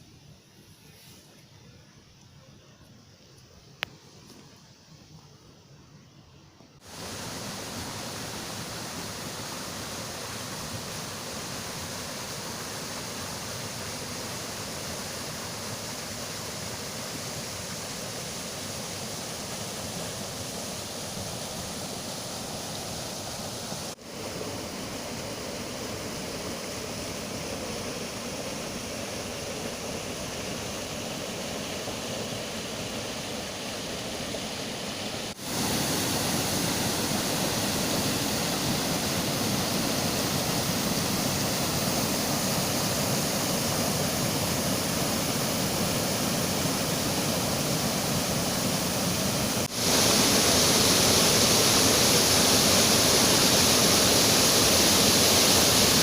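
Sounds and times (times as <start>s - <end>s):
water rushing over waterfalls: 6.8s - 56.0s.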